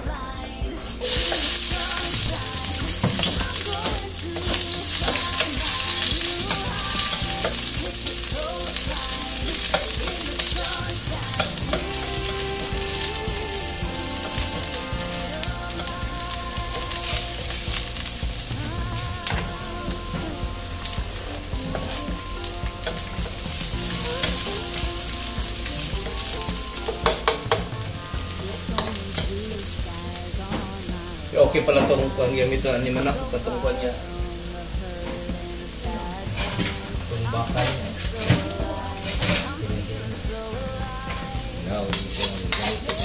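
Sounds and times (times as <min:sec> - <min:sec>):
food sizzling in oil: 0:01.0 - 0:43.0.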